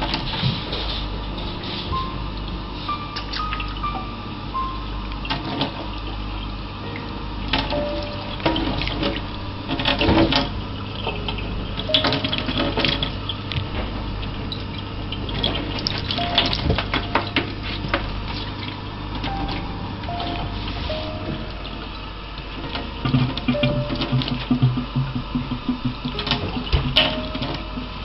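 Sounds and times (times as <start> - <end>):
water running: 5.2 - 28.0.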